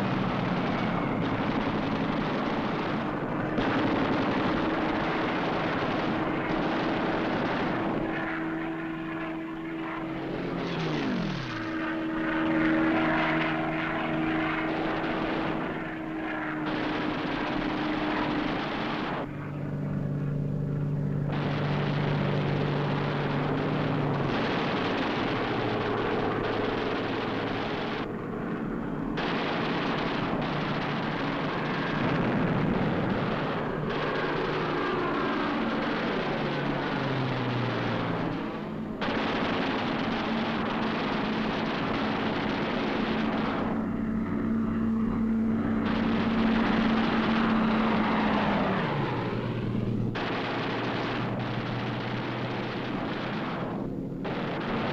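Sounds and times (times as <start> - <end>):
propeller aircraft engine droning: 0.0 - 54.9.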